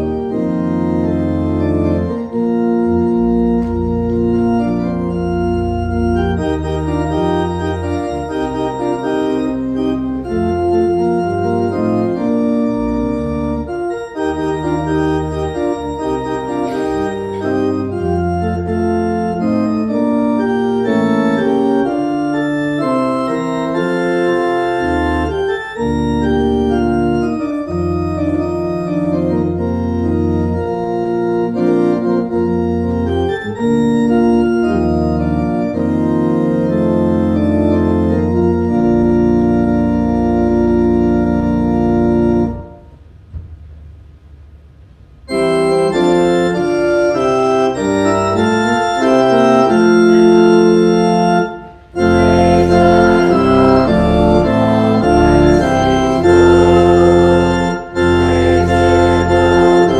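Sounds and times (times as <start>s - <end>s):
slow organ chords: 0.0s - 59.9s.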